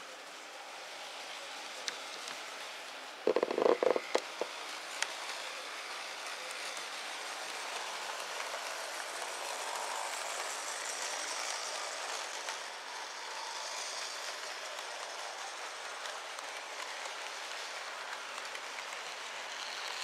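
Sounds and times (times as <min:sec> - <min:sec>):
model train whirring and rattling: 0:00.0 - 0:20.0.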